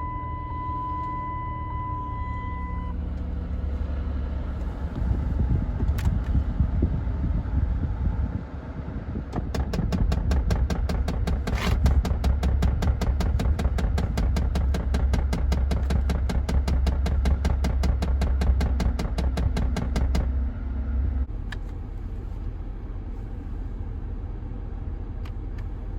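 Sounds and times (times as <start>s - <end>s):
van engine running: 0.0s - 25.9s.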